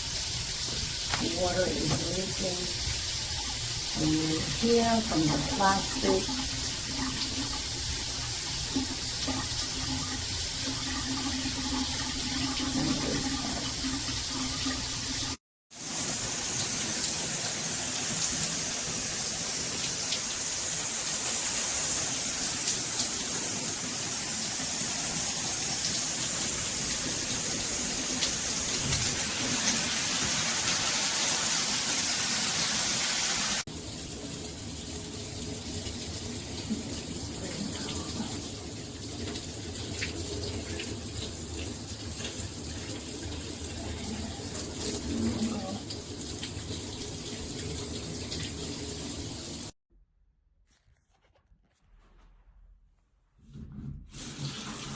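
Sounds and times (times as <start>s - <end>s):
shower water spraying: 0.0s - 49.8s, 54.1s - 54.9s.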